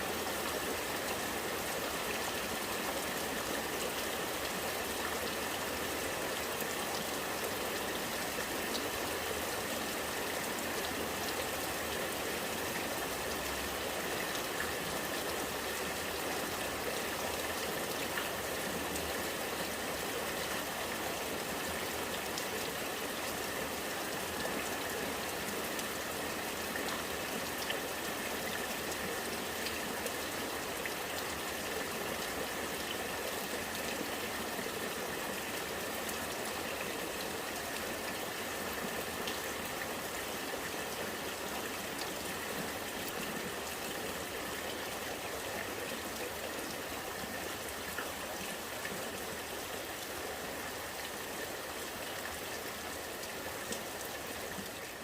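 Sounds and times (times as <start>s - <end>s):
rainwater running and gurgling: 0.0s - 55.0s.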